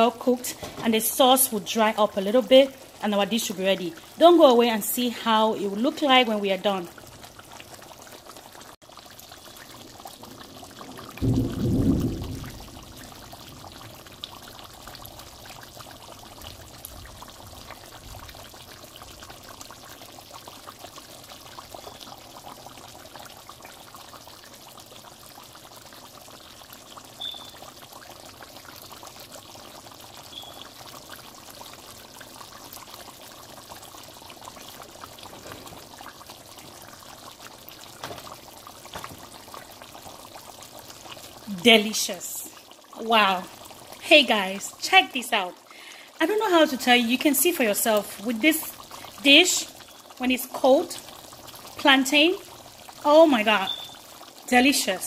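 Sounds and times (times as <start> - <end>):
sauce bubbling in a pan: 0.0 - 55.0.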